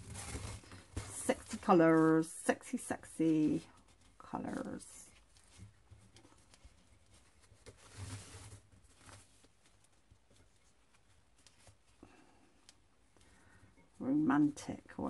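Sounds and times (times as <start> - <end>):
soft rustle: 0.0 - 15.0.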